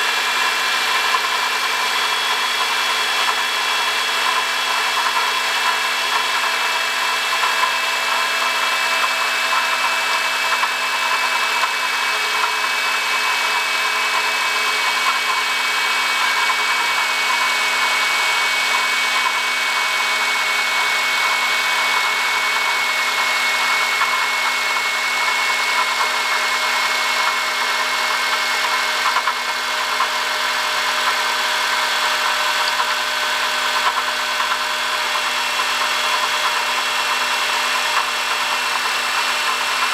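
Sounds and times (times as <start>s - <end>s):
car engine running with whine: 0.0s - 39.9s.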